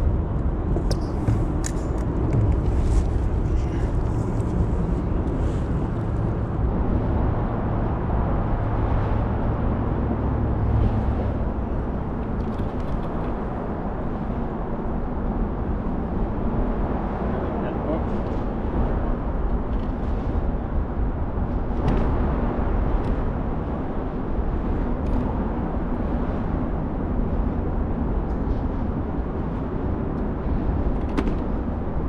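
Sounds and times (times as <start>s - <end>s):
low rumble and hiss under bridge: 0.0s - 32.0s.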